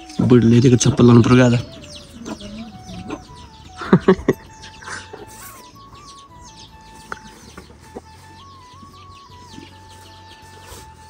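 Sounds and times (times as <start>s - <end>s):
chicks peeping: 0.0s - 11.0s
hen clucking: 0.0s - 11.0s.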